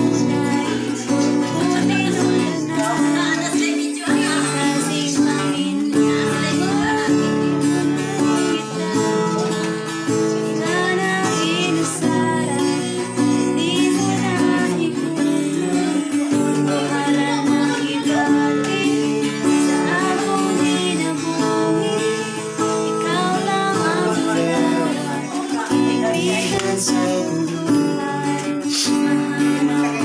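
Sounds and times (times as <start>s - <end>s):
acoustic guitar strumming: 0.0s - 30.0s
woman singing: 0.0s - 30.0s.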